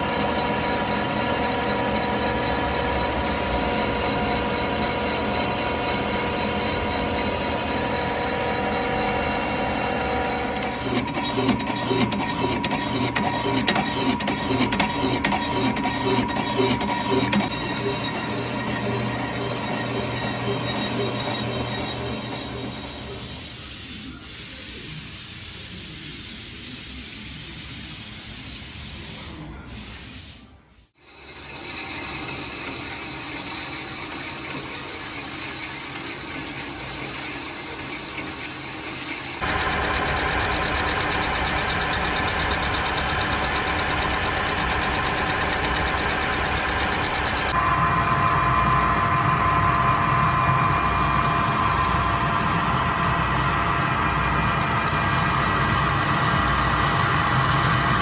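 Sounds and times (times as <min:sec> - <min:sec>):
machine shop machinery running: 0:00.0 - 0:24.3, 0:31.0 - 0:58.0.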